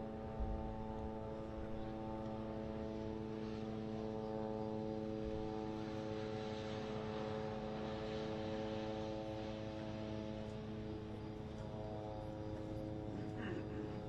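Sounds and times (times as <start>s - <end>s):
low rumbling background noise: 0.0s - 14.0s
steady mechanical hum: 0.0s - 14.0s.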